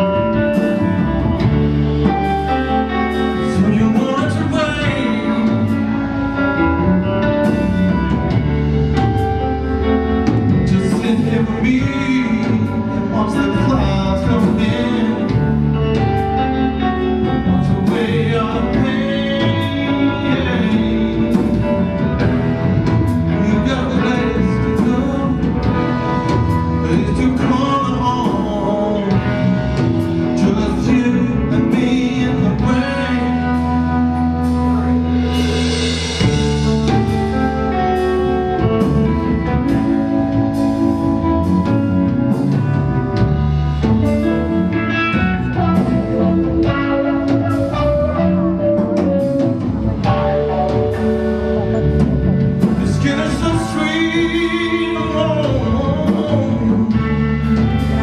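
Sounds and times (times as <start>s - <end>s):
man singing: 0.0s - 8.3s, 10.2s - 58.0s
live blues-rock band playing: 0.0s - 58.0s.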